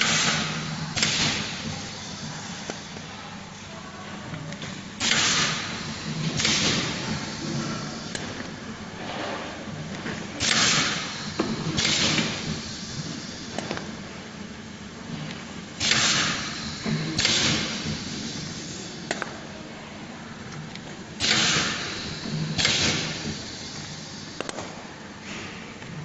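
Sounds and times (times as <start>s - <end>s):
filling machine running: 0.0s - 25.6s.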